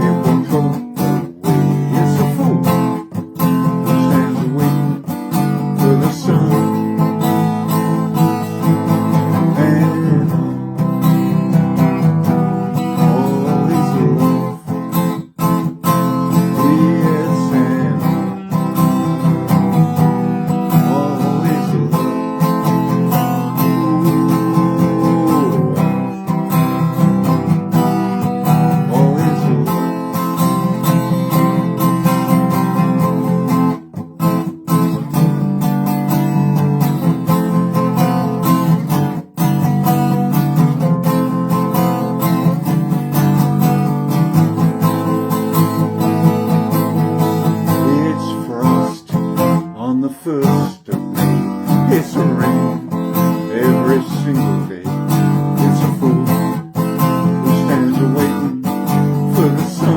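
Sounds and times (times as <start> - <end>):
acoustic guitar strumming chords: 0.0 - 59.9.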